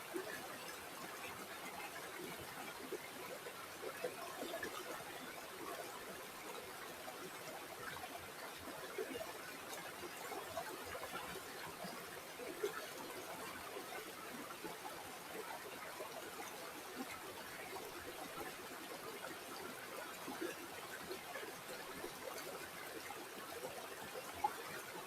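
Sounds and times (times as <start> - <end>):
stream trickling over stones: 0.0 - 25.0.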